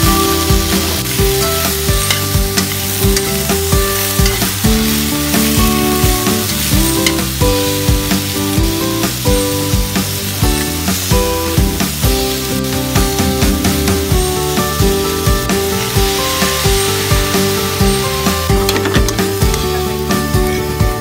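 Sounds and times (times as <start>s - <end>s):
background music with steady beat: 0.0s - 21.0s
vegetables sizzling in a wok: 0.0s - 21.0s.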